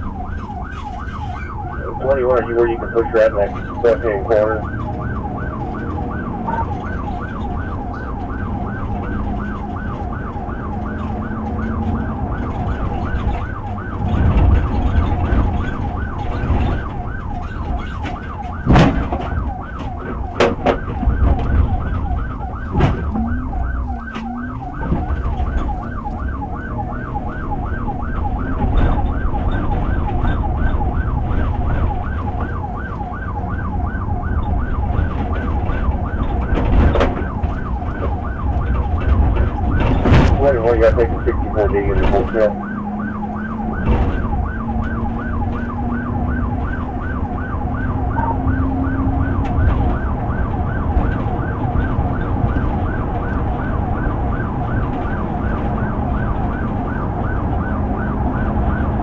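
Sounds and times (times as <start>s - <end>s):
engine and road noise: 0.0s - 59.0s
police siren yelping: 0.0s - 59.0s.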